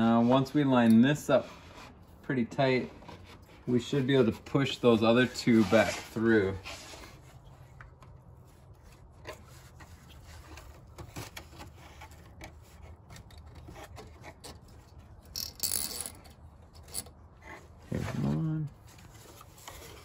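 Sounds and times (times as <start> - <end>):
scraping rustle: 0.0 - 20.0.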